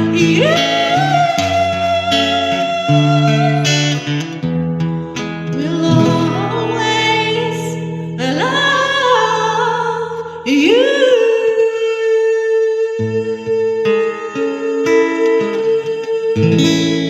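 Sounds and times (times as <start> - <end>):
woman singing wordless phrases: 0.0 - 4.2, 5.5 - 17.0
acoustic guitar: 0.0 - 17.0.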